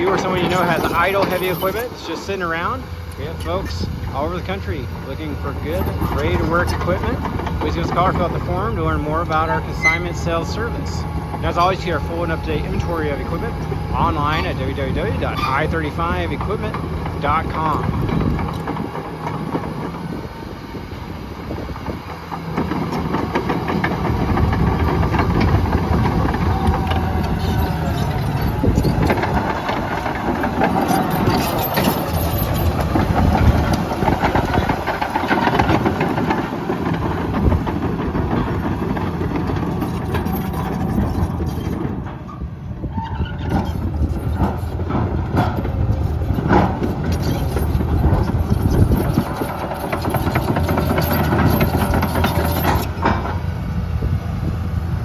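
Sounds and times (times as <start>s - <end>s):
bulldozer diesel engine running: 0.0s - 55.0s
tracks clanking: 0.0s - 55.0s.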